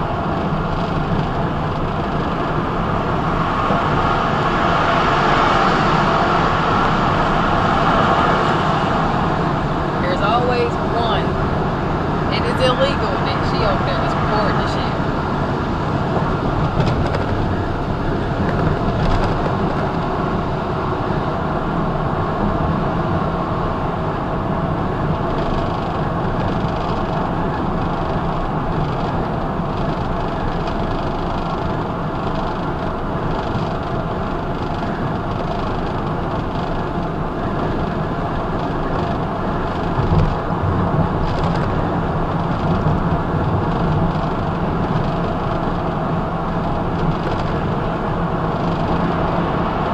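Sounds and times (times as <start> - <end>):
diesel engine cruising: 0.0 - 49.9
tyre and wind noise: 0.0 - 49.9.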